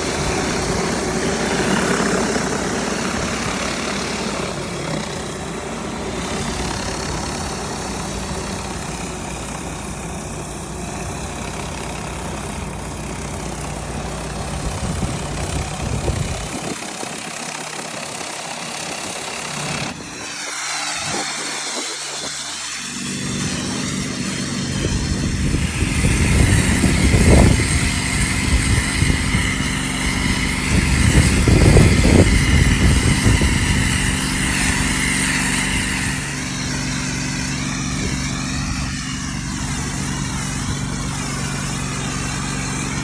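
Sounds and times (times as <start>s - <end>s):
pressure washer engine drone: 0.0s - 43.0s.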